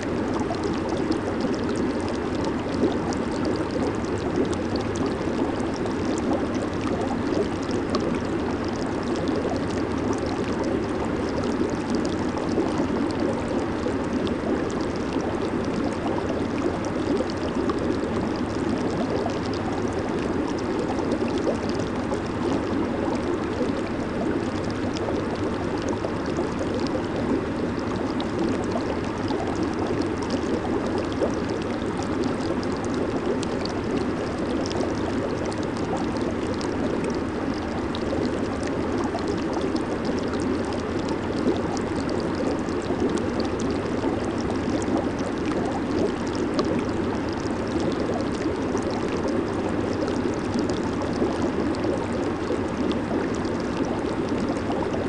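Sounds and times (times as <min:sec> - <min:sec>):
jacuzzi water churning and bubbling: 0:00.0 - 0:55.0.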